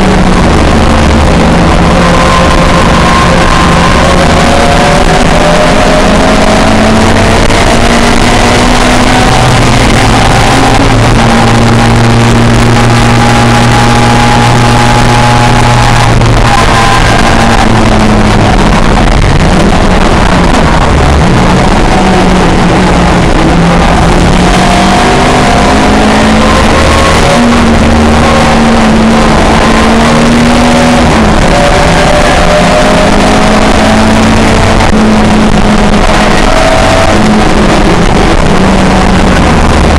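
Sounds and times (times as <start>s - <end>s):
racing car engine at full throttle: 0.0s - 39.9s.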